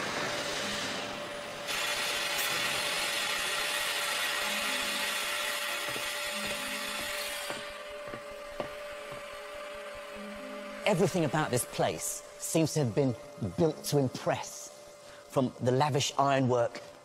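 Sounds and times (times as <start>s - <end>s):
steam engine hissing: 0.0s - 16.5s.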